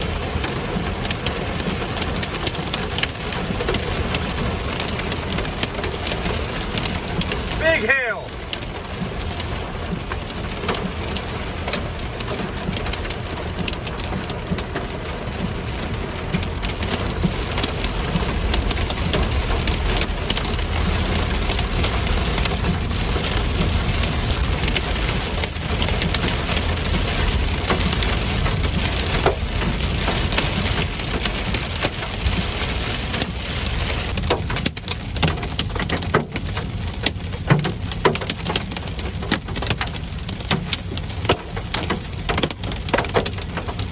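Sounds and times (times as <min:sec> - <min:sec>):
hail and heavy rain pelting: 0:00.0 - 0:43.9.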